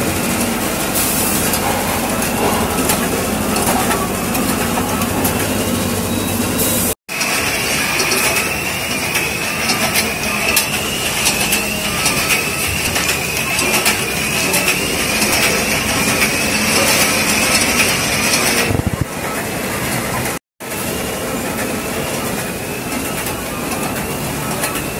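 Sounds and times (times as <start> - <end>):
rapid clacking of hopper gates: 0.0 - 20.4
steady mechanical din: 0.0 - 24.9.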